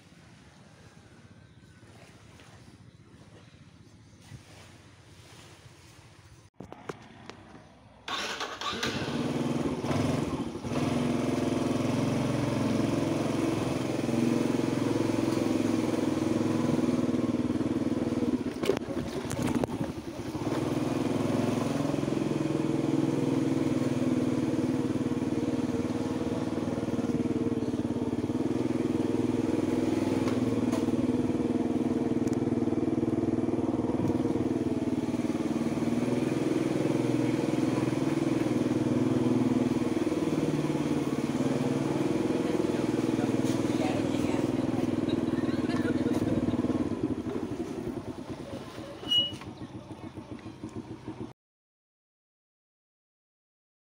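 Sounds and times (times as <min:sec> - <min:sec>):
small motorbike engine running: 0:06.6 - 0:51.3.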